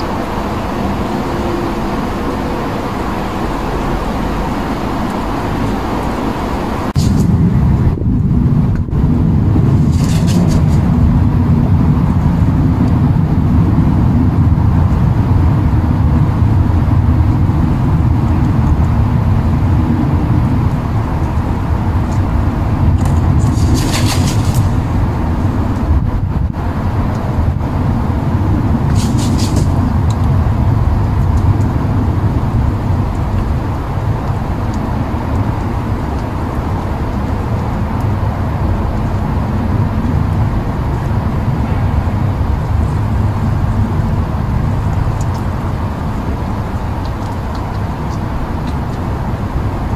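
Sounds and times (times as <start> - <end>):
low outdoor rumble: 0.0 - 49.9.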